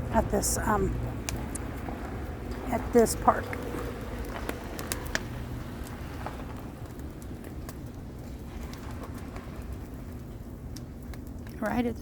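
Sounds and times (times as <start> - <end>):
low rumble: 0.0 - 11.5
campfire crackling: 0.0 - 12.0
sharp fire pops: 1.0 - 11.6.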